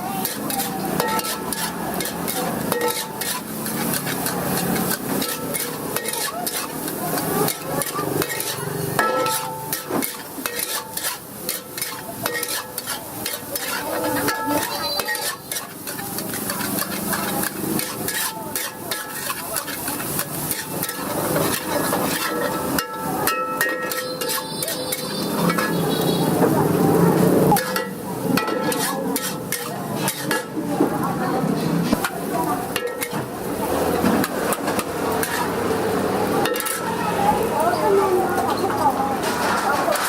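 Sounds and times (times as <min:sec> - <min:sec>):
metal spatula scraping wok: 0:00.0 - 0:40.0
rice sizzling in wok: 0:00.0 - 0:40.0.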